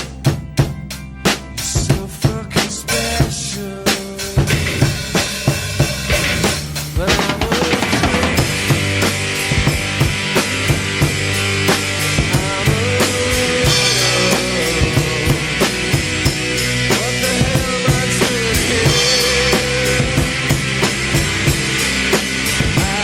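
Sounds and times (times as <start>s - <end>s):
rock music: 0.0s - 23.0s.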